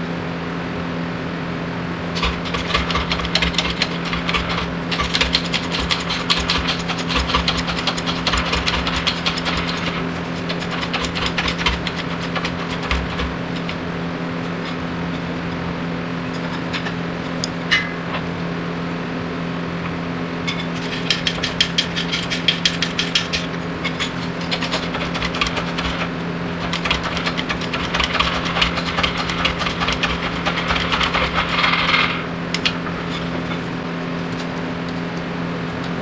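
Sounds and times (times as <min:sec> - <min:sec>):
mechanical hum: 0:00.0 - 0:36.0
rapid clicking and rattling: 0:02.1 - 0:15.6, 0:16.2 - 0:18.4, 0:20.5 - 0:35.0.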